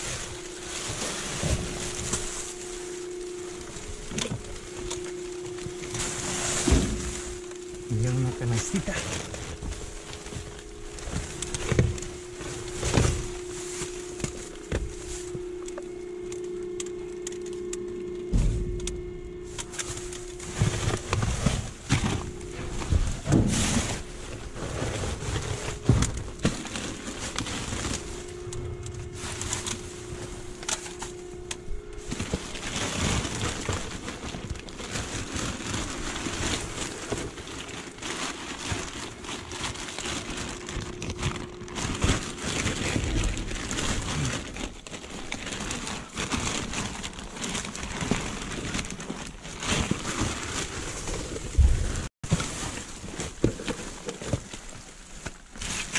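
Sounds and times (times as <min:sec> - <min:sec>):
plastic bags rustling and crinkling: 0:00.0 - 0:55.9.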